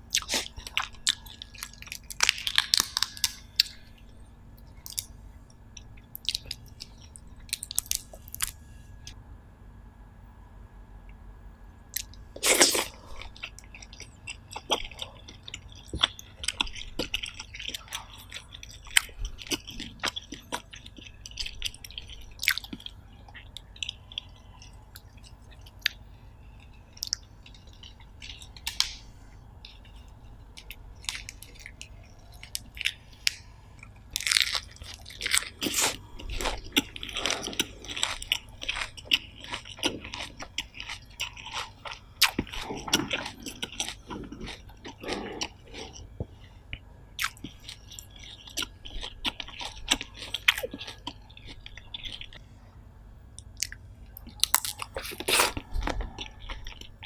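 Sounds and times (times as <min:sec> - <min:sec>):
chewing and crunching: 0:00.0 - 0:09.2, 0:11.9 - 0:52.5, 0:53.3 - 0:57.0.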